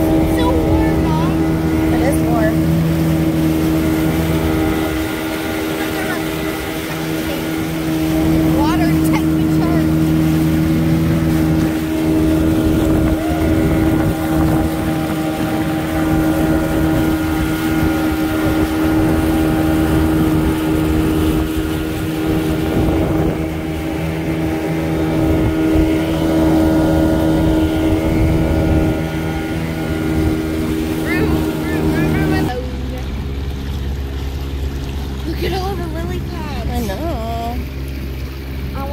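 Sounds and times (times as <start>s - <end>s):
outboard motor droning: 0.0s - 38.9s.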